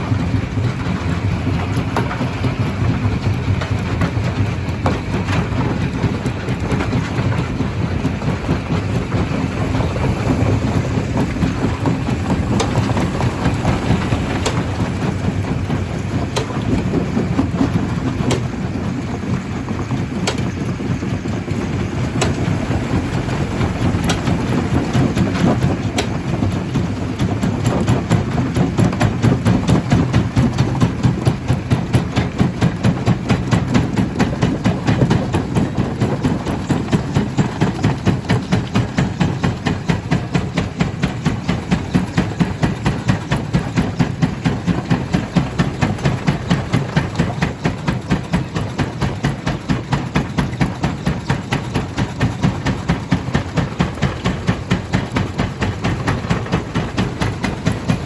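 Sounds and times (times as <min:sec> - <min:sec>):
stone crusher rumbling: 0:00.0 - 0:58.0.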